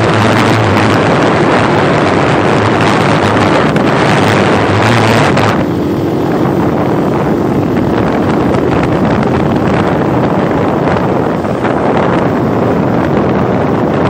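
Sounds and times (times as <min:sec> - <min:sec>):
motorcycle engine running: 0:00.0 - 0:14.0
wind rushing on microphone: 0:00.0 - 0:14.0.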